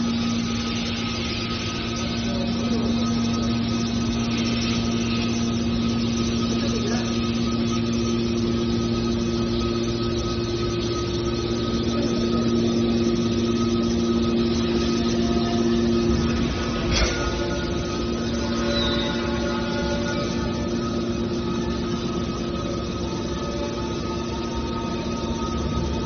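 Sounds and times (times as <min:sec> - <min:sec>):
hydraulic machine humming and whining: 0:00.0 - 0:26.0.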